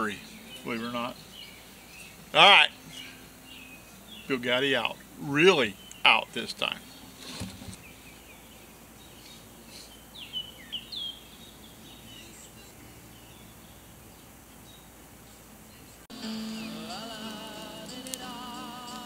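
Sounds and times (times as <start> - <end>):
bird chirping: 0.0 - 19.0
low hiss: 0.0 - 19.0.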